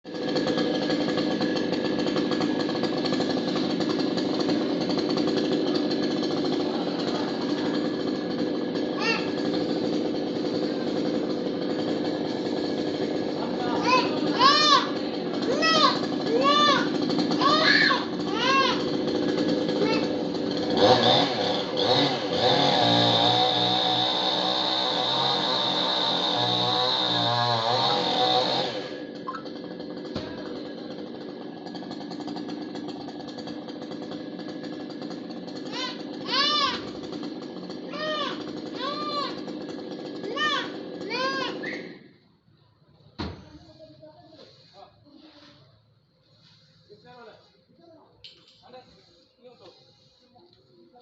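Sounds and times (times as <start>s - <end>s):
chainsaw cutting tree: 0.1s - 42.2s, 48.3s - 51.0s.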